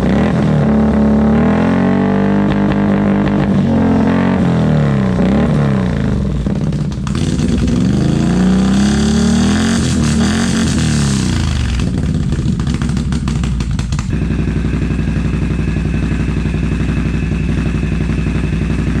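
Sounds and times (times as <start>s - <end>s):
atv engine crackling and idling: 0.0s - 19.0s.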